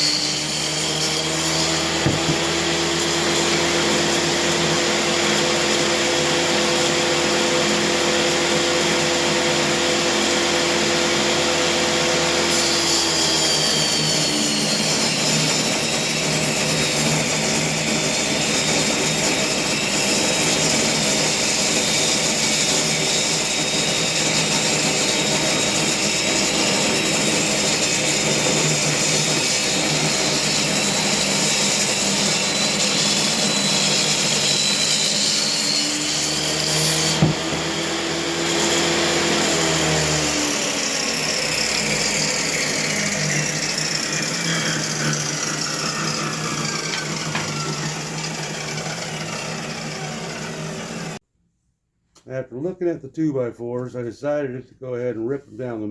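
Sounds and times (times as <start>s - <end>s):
table saw ripping wood: 0.0s - 51.2s.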